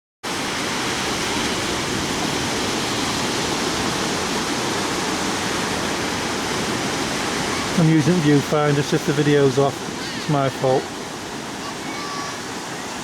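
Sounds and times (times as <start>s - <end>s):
surf rushing on beach: 0.2s - 13.0s.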